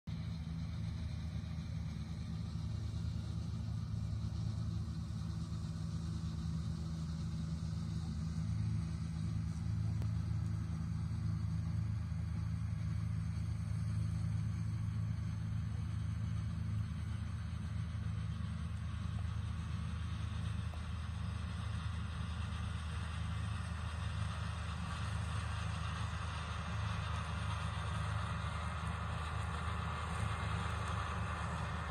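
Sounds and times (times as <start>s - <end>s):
tractor engine rumbling: 0.1s - 31.9s.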